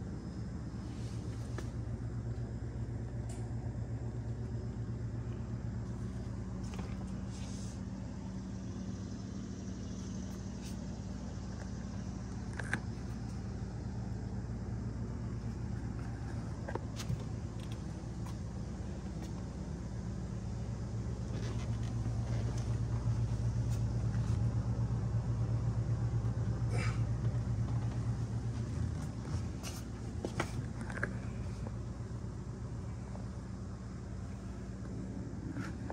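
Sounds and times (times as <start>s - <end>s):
low machine hum: 0.0s - 35.9s.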